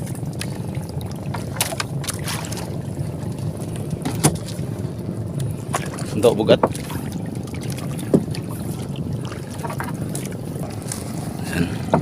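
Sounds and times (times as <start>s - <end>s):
boat low rumble: 0.0s - 12.0s
water splashing: 0.0s - 12.0s.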